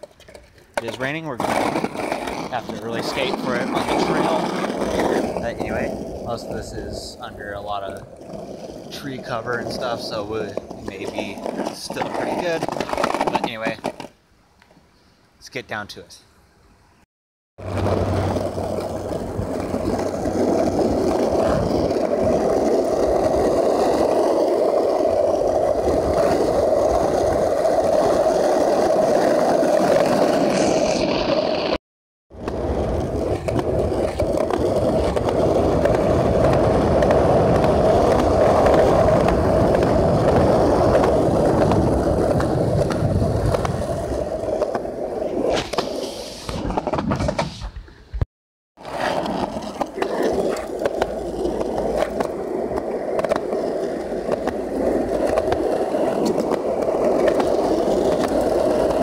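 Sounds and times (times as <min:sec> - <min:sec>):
skateboard wheels rolling on pavement: 0:00.0 - 0:16.9, 0:17.6 - 0:48.2, 0:48.8 - 0:59.0.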